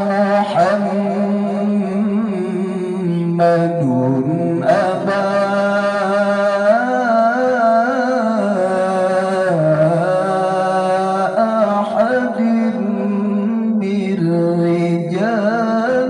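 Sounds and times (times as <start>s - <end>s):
man reciting melodically through loudspeakers: 0.0s - 16.0s.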